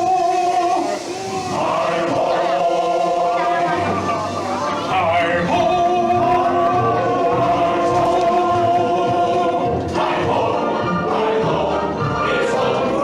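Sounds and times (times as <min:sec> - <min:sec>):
group of voices singing: 0:00.0 - 0:13.0
steady musical accompaniment: 0:00.0 - 0:13.0.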